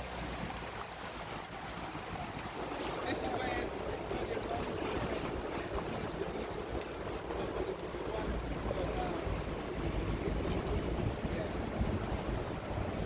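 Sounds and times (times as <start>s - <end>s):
boat water noise: 0.0s - 13.0s
wind buffeting microphone: 0.7s - 13.0s.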